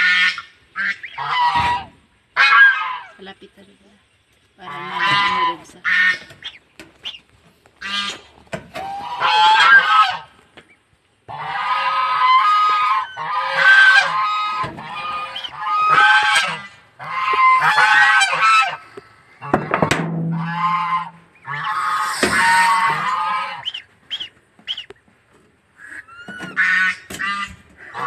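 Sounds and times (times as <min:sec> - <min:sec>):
goose calling: 0:00.0 - 0:03.3, 0:04.6 - 0:10.3, 0:11.3 - 0:19.7, 0:20.3 - 0:25.0, 0:25.7 - 0:28.0.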